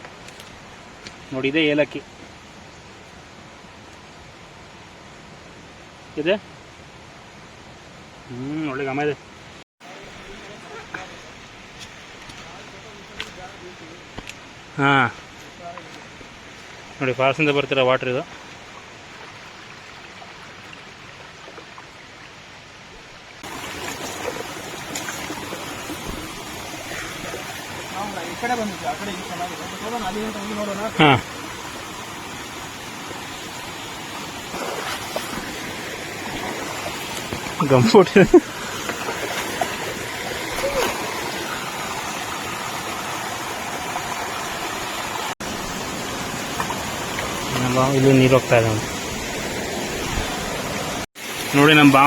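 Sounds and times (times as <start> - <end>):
water rushing from waterfall: 8.9 - 52.0.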